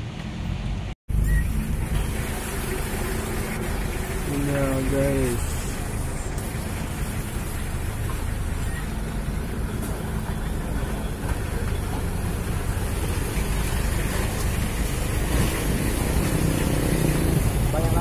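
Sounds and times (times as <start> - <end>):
road and wind noise: 0.0 - 18.0
vehicle engine drone: 0.0 - 18.0.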